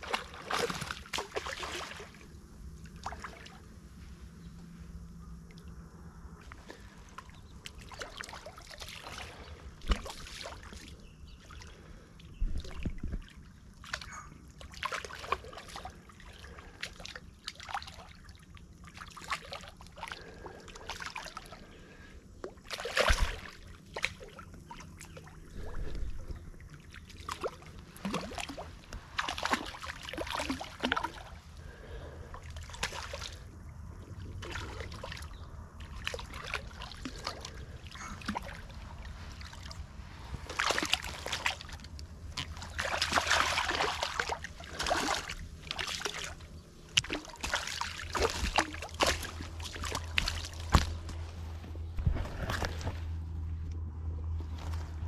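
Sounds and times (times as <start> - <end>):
fish splashing and thrashing in water: 0.0 - 3.7, 6.4 - 53.3.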